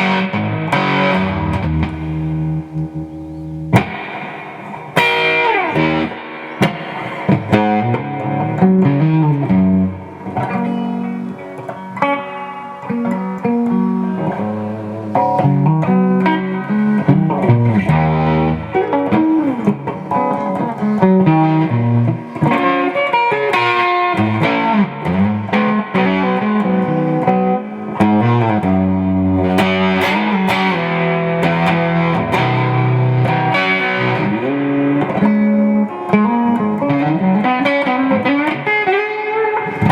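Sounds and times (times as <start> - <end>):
electric guitar through amplifier: 0.0 - 39.9.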